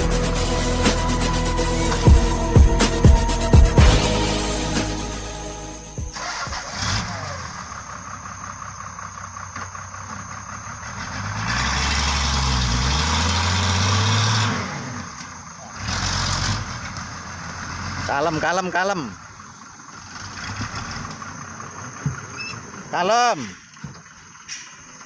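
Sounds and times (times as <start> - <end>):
truck diesel engine revving: 0.0 - 25.0.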